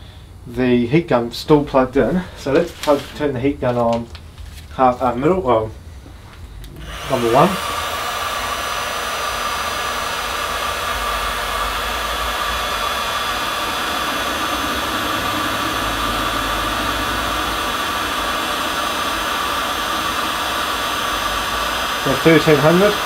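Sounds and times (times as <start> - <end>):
heat gun fan blowing: 0.0 - 23.0.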